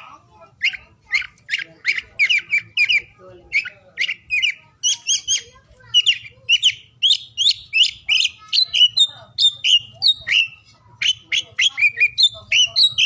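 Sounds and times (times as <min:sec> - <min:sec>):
magpie-robin singing whistled notes: 0:00.6 - 0:13.0.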